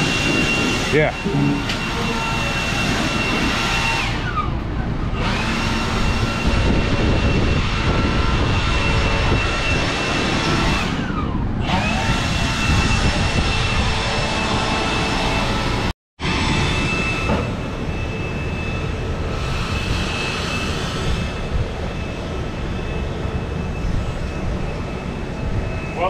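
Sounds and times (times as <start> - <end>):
large fan rushing air: 0.0 - 26.0.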